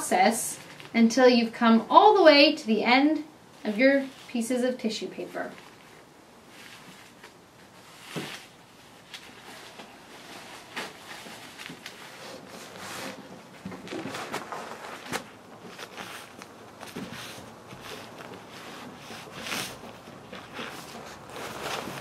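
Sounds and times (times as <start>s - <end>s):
tissue paper rustling and crinkling: 3.6s - 22.0s.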